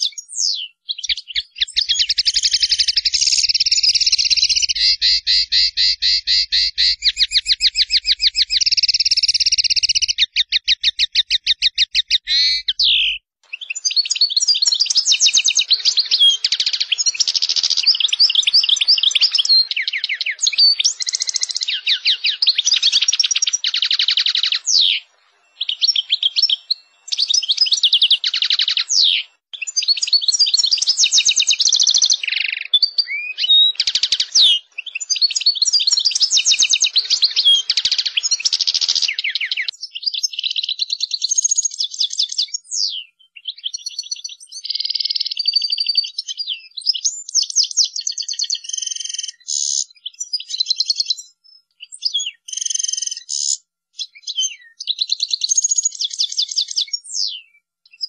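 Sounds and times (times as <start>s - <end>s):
goldfinch trilling and twittering: 0.0s - 58.0s.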